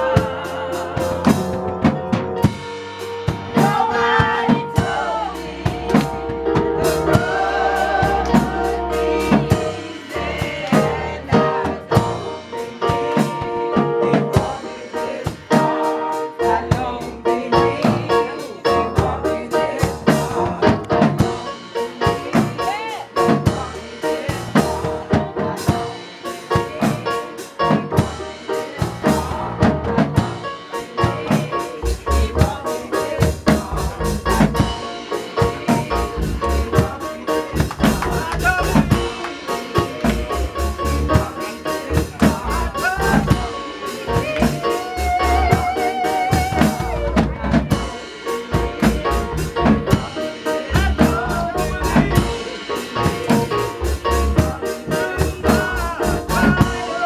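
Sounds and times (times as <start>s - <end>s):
women singing gospel: 0.0s - 1.8s, 3.5s - 57.0s
drum kit beating: 0.0s - 57.0s
keyboard accompaniment: 0.0s - 57.0s.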